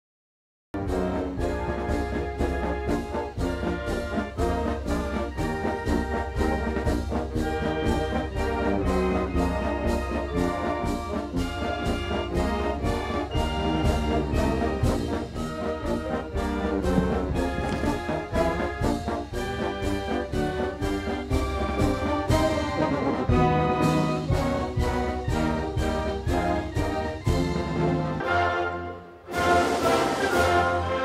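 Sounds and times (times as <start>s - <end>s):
brass ensemble music: 0.8s - 31.0s.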